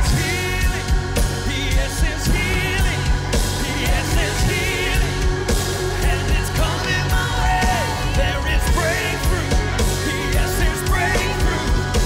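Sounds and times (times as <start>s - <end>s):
band playing worship music: 0.0s - 12.0s
person singing: 0.0s - 12.0s.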